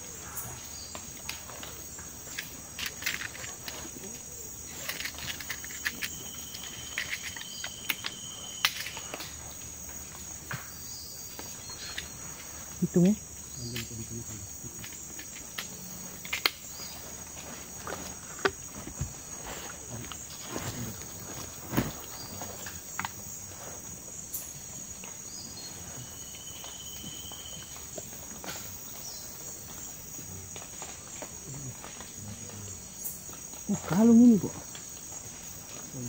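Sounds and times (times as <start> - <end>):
insects chirring chorus: 0.0 - 36.0.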